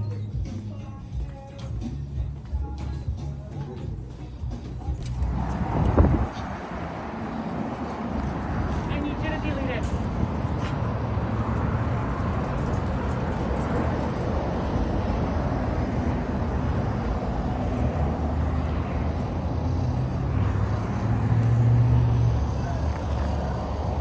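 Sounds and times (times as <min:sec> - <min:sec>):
vehicle engine hum and rumble: 0:00.0 - 0:24.0.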